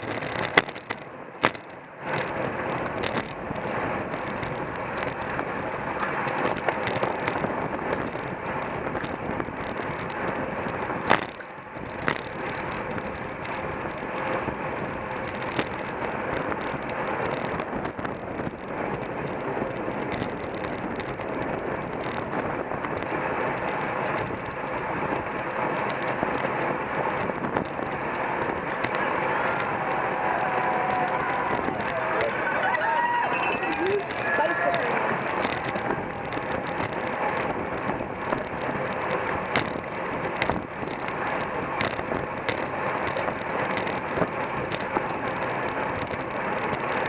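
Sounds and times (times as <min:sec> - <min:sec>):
rushing wind and tyres: 0:00.0 - 0:47.0.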